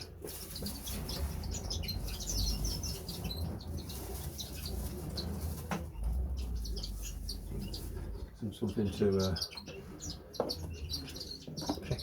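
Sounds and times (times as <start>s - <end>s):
canaries chirping: 0.0s - 12.0s.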